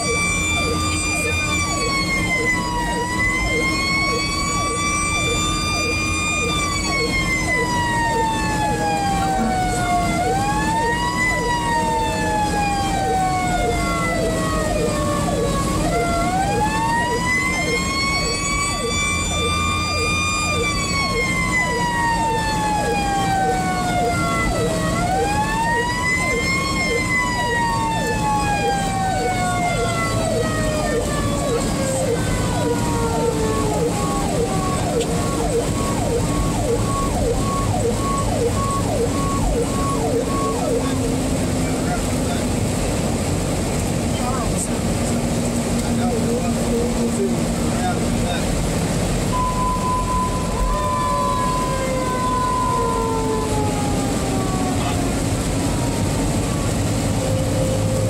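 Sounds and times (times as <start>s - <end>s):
fire engine siren: 0.0s - 58.0s
truck engine running: 0.0s - 58.0s.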